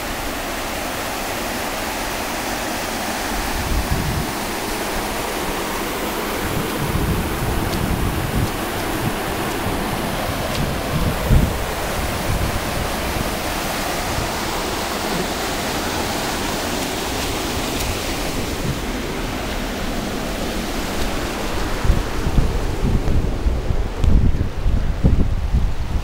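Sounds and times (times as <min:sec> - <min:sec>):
rain on wet pavement: 0:00.0 - 0:26.0
water running along gutter: 0:00.0 - 0:26.0
wind buffeting microphone: 0:00.0 - 0:26.0.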